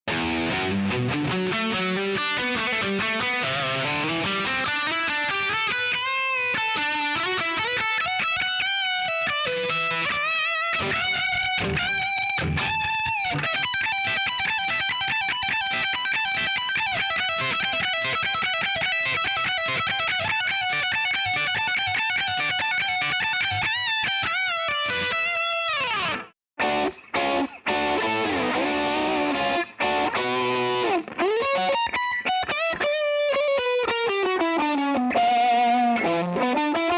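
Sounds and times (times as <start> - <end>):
overdriven electric guitar: 0.0 - 36.9.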